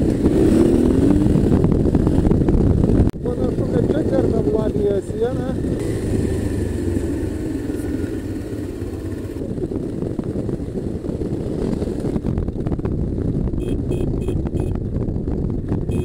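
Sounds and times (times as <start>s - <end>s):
motorcycle engine running: 0.0s - 16.0s
wind: 0.0s - 16.0s.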